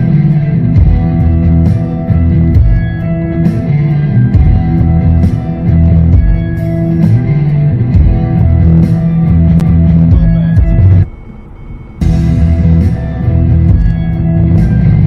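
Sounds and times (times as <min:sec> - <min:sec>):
rock music with guitar and bass: 0:00.0 - 0:15.0.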